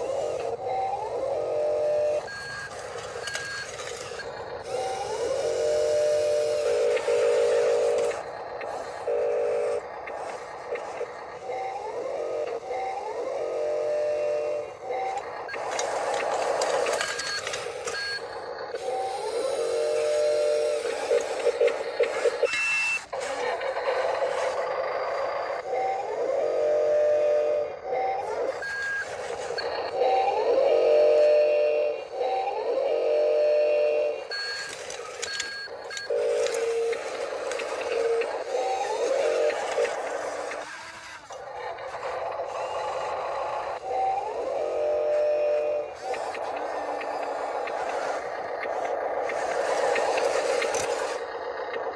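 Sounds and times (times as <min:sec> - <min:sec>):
toy motor whine: 0:00.0 - 0:51.9.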